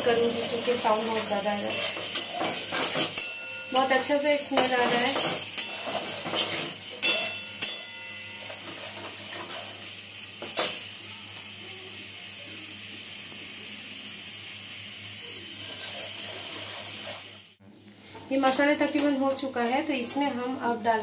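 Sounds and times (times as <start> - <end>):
spices sizzling in oil: 0.0 - 17.6.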